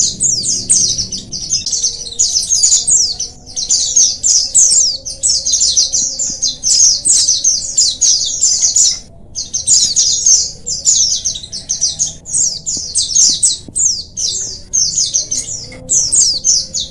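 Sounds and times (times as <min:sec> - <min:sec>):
flock of birds twittering: 0:00.0 - 0:16.9.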